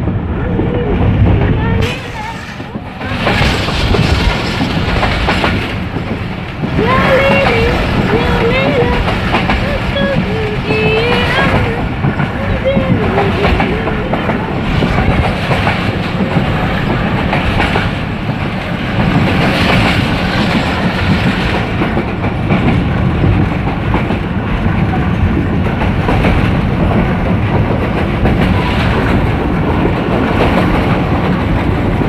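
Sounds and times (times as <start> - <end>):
train rumbling: 0.0 - 32.0
wheels clattering on rails: 0.0 - 32.0.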